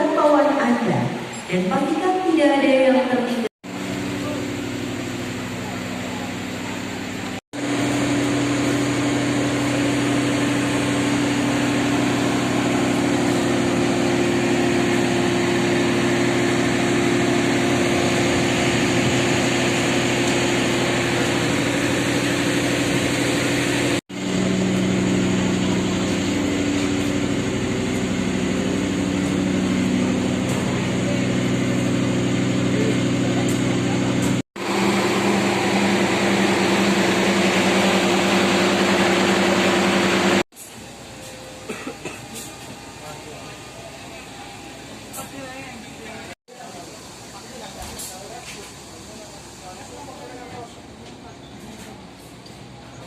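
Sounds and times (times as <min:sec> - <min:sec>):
train diesel engine humming: 0:03.7 - 0:53.0.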